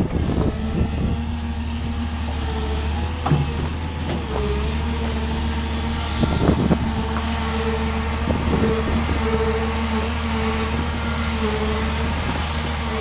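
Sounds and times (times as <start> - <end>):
excavator diesel engine droning: 0.0 - 13.0
hydraulic whine: 0.0 - 13.0.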